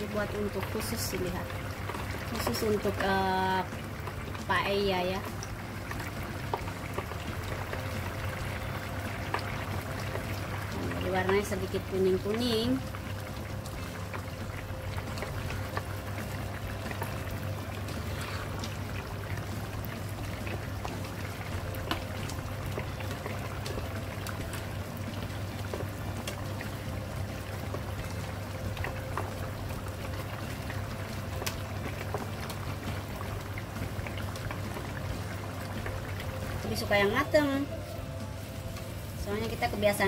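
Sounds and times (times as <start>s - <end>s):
rice bubbling in a pan: 0.0s - 40.0s.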